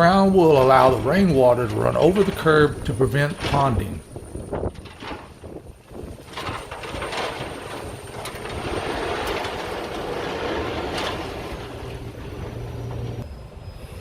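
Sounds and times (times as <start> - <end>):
machinery clanks: 0.0 - 13.3
diesel machinery engine running: 0.0 - 13.8.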